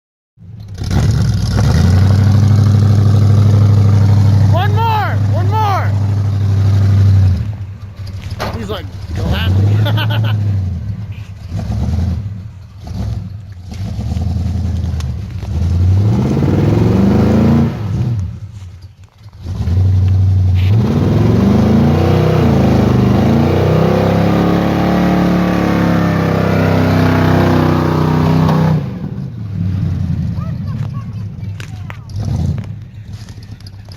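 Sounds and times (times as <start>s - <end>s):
truck engine revving: 0.6s - 18.6s, 19.2s - 33.9s.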